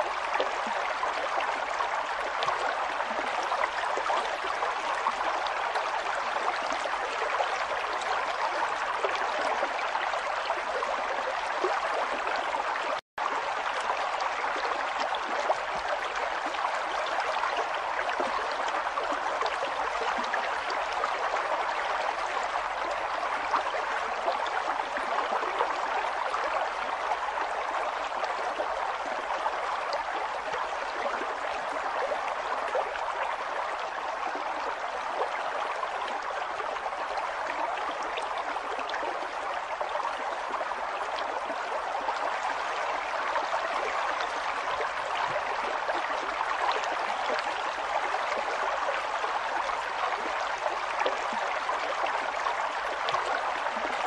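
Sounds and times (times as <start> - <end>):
river water gurgling over stones: 0.0 - 54.0.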